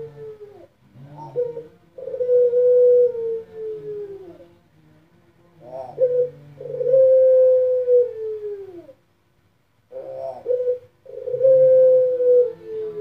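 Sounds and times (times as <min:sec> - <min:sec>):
dove cooing: 0:00.0 - 0:04.6, 0:05.6 - 0:09.0, 0:09.9 - 0:13.0.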